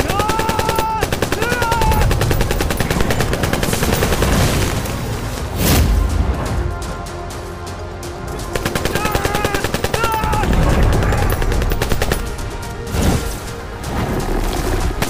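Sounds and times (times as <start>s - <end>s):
dramatic film music: 0.0s - 15.0s.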